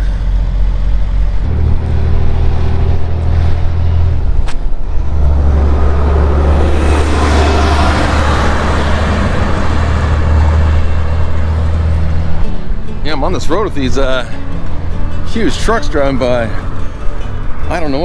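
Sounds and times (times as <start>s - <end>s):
heavy trucks driving past: 0.0s - 18.0s.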